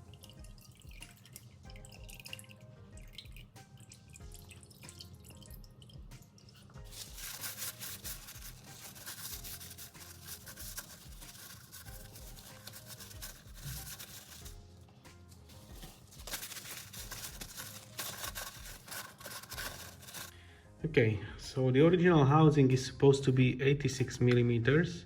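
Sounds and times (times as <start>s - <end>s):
background music with beat: 0.0s - 20.3s.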